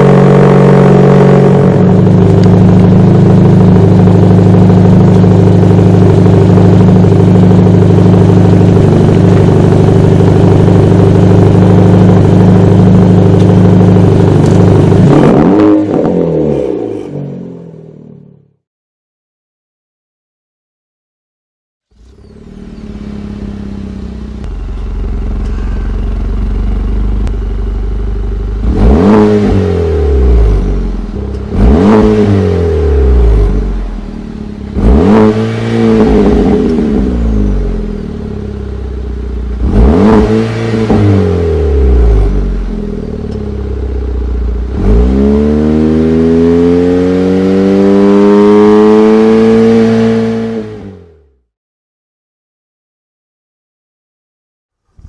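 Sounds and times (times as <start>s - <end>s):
car engine idling and revving: 0.0s - 18.5s, 21.9s - 51.4s.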